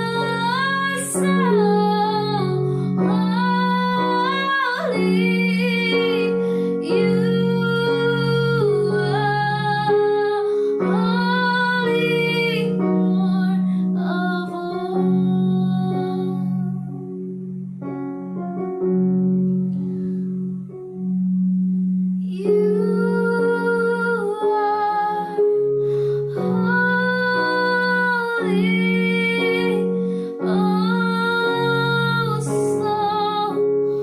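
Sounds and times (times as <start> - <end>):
woman singing worship song: 0.0 - 16.8, 22.2 - 34.0.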